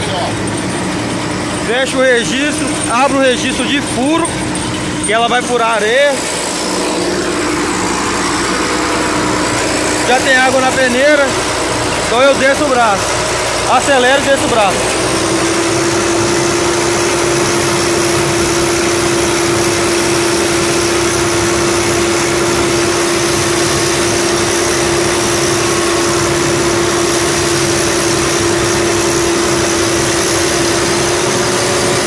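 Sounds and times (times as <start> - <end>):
diesel engine running at high throttle: 0.0 - 32.0
suction pump whine: 0.0 - 32.0.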